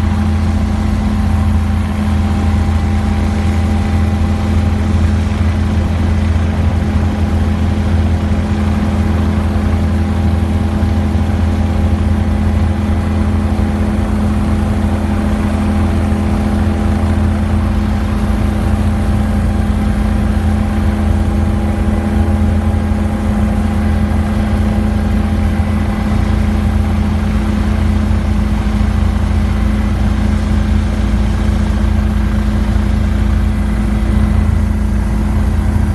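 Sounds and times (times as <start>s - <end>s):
helicopter engine and rotor drone: 0.0s - 35.9s.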